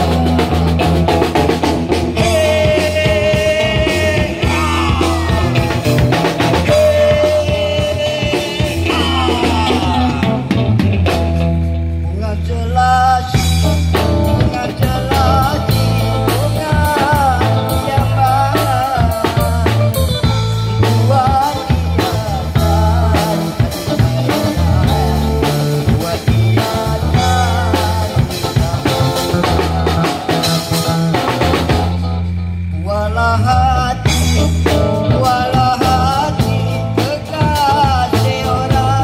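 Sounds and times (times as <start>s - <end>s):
person singing: 0.0s - 10.8s, 12.0s - 31.7s, 32.7s - 39.0s
drum kit beat: 0.0s - 12.0s, 13.3s - 32.9s, 34.0s - 39.0s
steady bass line: 0.0s - 39.0s.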